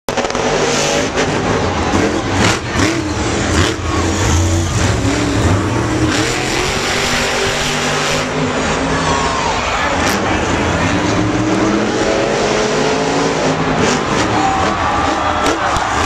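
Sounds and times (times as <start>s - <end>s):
monster truck engine revving: 0.1s - 16.0s.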